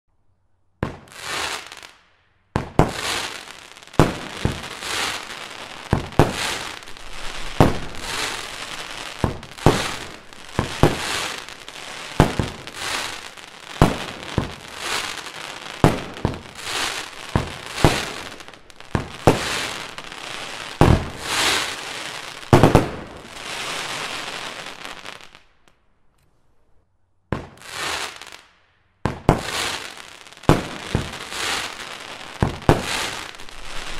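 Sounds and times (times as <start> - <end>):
fireworks bangs: 0.8 - 2.0, 2.6 - 25.4, 27.3 - 33.9
fireworks crackling: 0.8 - 25.7, 27.4 - 33.9.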